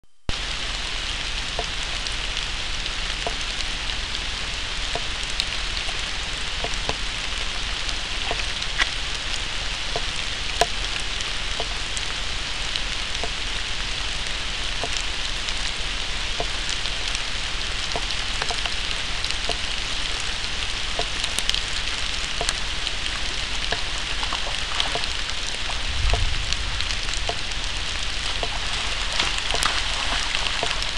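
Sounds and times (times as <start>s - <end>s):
heavy rain hissing: 0.3s - 30.9s
raindrops ticking close by: 0.3s - 30.9s.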